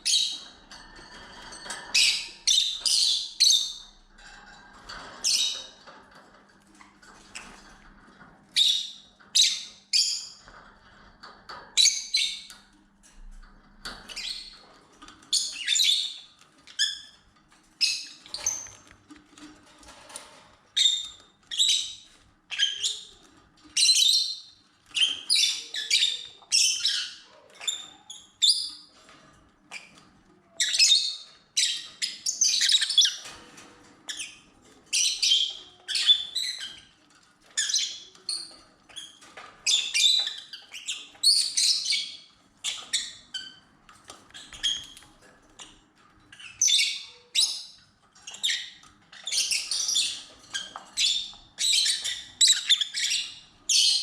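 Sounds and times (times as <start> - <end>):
lovebirds chirping and squawking: 0.0 - 54.0.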